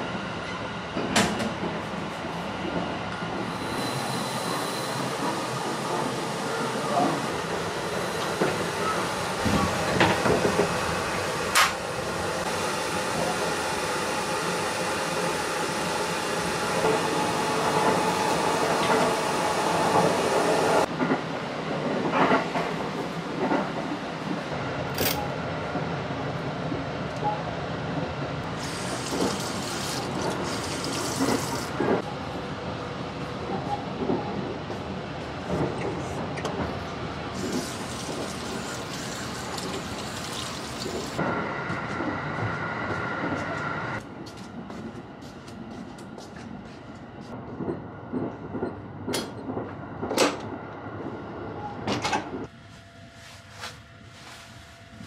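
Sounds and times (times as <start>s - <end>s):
train rumble and hiss: 0.0s - 47.7s.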